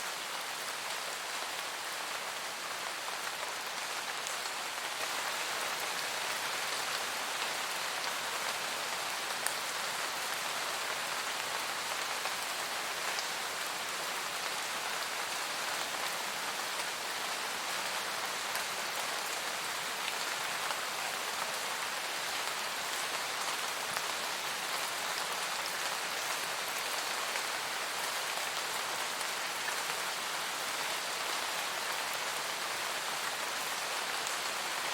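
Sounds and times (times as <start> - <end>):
rain falling on foliage: 0.0 - 34.9.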